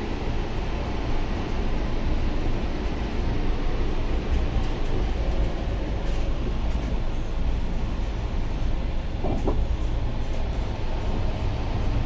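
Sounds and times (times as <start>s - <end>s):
moving train rumble and rattle: 0.0s - 12.0s.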